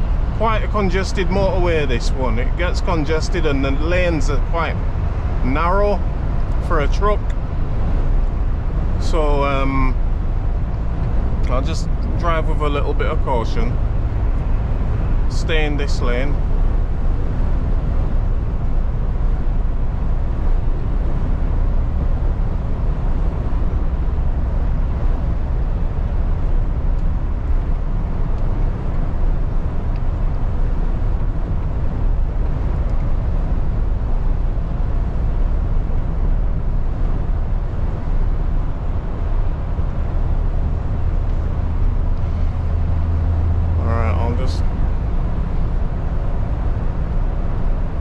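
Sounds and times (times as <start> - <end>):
lorry engine drone: 0.0 - 48.0
tyre and road noise: 0.0 - 48.0.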